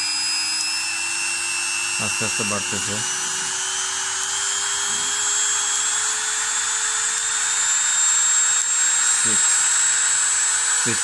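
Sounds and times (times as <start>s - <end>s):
rotary tool motor whine: 0.0s - 11.0s.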